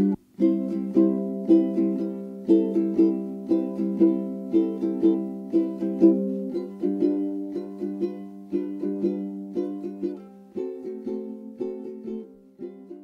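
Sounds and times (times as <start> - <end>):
plucked string tune: 0.0 - 13.0.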